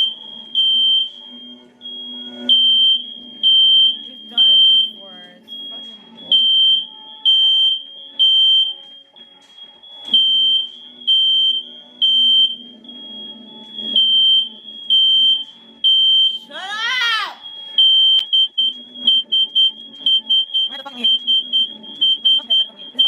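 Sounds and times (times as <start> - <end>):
fire alarm beeping: 0.0 - 23.0.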